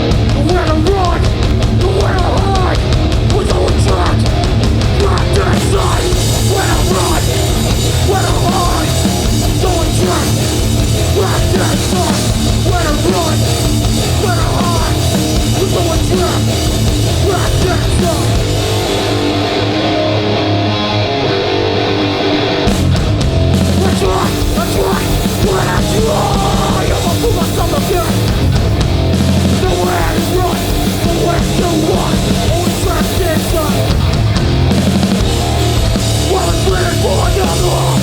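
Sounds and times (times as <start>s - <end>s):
punk band playing live: 0.0s - 38.0s.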